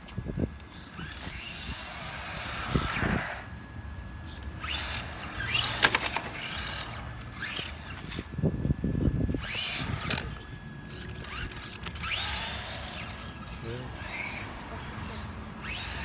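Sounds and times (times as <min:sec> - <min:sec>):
rc car electric motor whining: 0:00.0 - 0:16.0.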